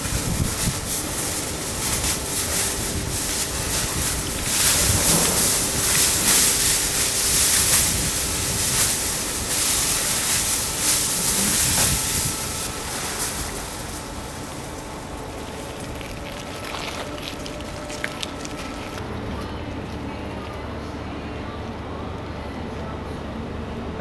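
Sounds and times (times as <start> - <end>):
foil rustling and crackling: 0.0 - 20.6
steady background noise: 0.0 - 24.0.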